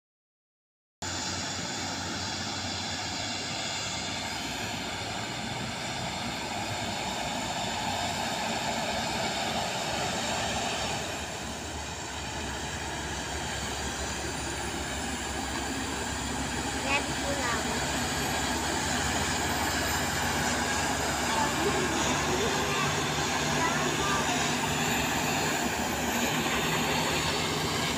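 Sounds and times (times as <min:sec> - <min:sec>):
heavy truck driving by: 0:01.0 - 0:27.9.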